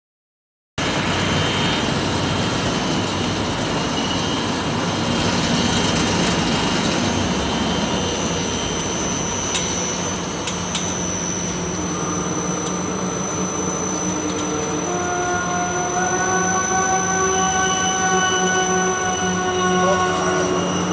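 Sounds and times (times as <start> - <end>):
high steady whine: 0.8 - 20.9
production line machinery running: 0.8 - 20.9.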